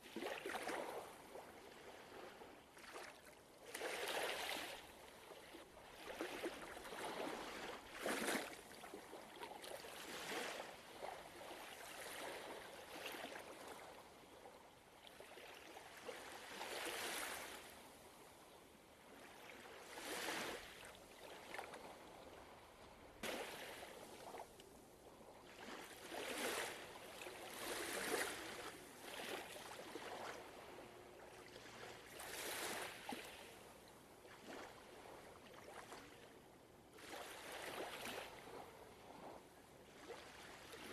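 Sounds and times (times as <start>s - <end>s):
ocean waves lapping: 0.1s - 14.3s, 15.2s - 40.9s.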